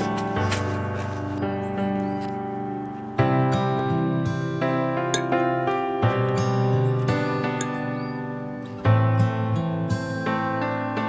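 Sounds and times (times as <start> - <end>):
gentle acoustic guitar music: 0.0 - 11.0.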